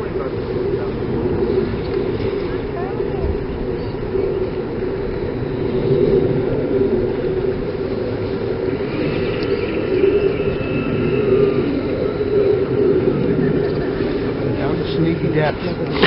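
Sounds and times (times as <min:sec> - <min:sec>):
faint high whines: 0:00.0 - 0:16.0
motor drone with hum: 0:00.0 - 0:16.0.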